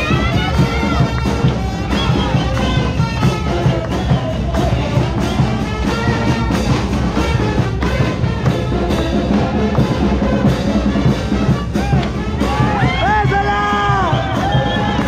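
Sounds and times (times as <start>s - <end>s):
brass band music: 0.0s - 15.0s
steady drumbeat: 0.0s - 15.0s.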